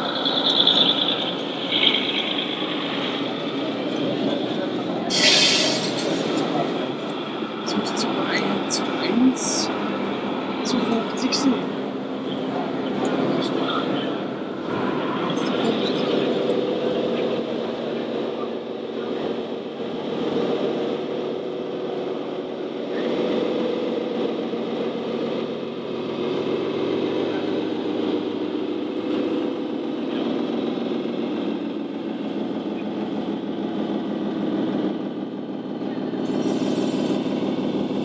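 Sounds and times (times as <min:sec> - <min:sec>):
diesel truck engine sound effect: 0:00.0 - 0:38.0.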